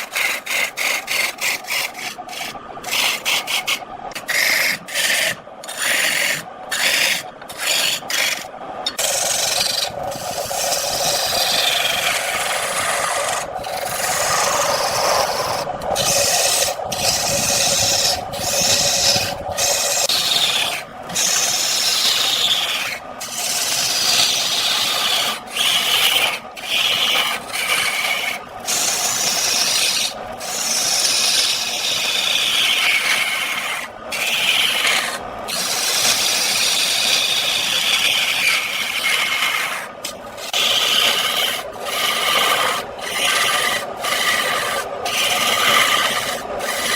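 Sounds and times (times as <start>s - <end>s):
lathe tool scraping spinning wood: 0.0s - 46.9s.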